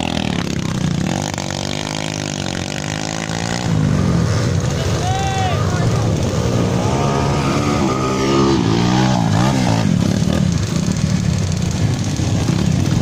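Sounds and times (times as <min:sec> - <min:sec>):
trail motorcycle engines revving: 0:00.0 - 0:13.0.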